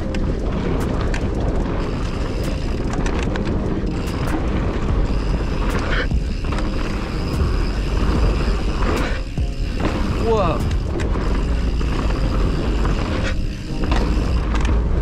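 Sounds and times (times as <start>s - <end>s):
bike clicking and rattling: 0.0s - 15.0s
tyres rumbling on dirt: 0.0s - 15.0s.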